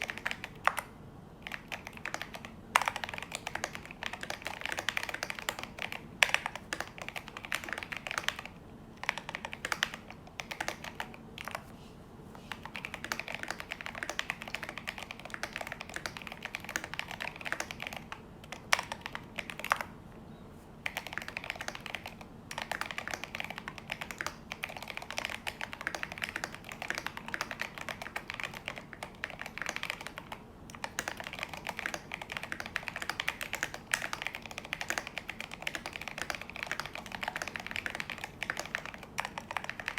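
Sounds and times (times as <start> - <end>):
mechanical keyboard typing: 0.0 - 11.6, 12.5 - 19.9, 20.8 - 39.9.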